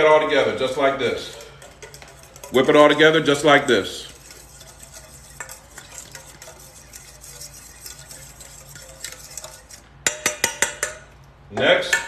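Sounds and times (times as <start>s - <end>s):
fork whisking in metal bowl: 0.6s - 11.1s.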